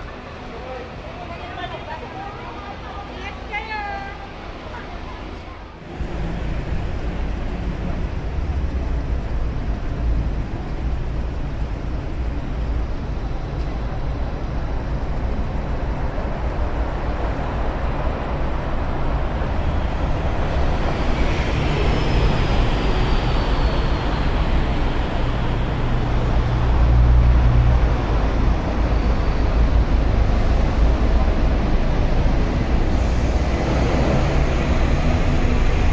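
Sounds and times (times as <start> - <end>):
bus engine drone: 0.0 - 35.9.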